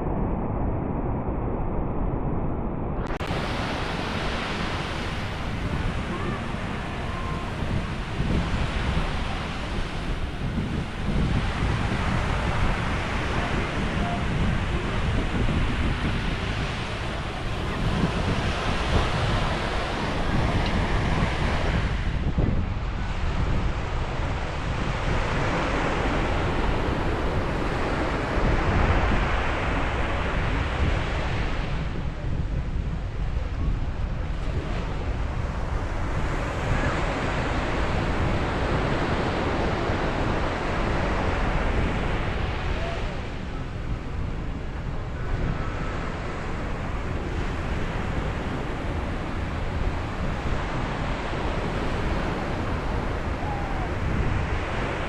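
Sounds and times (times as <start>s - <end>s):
wind buffeting microphone: 0.0s - 55.0s
sea waves washing onto shore: 3.2s - 32.0s, 33.8s - 55.0s.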